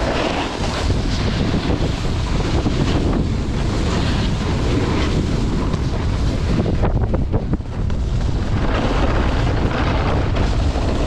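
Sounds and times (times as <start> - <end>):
snowboard edges scraping snow: 0.0 - 11.0
wind buffeting microphone: 0.0 - 11.0.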